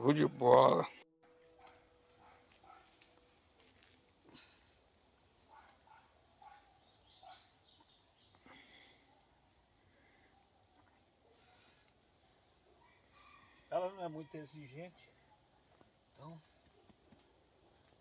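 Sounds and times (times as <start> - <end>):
faint high chirps: 0.2 - 18.0.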